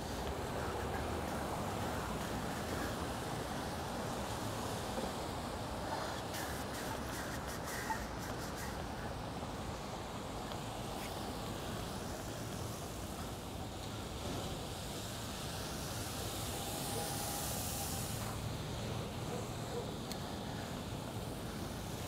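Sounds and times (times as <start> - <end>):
tyres hissing on wet pavement: 0.0 - 22.0.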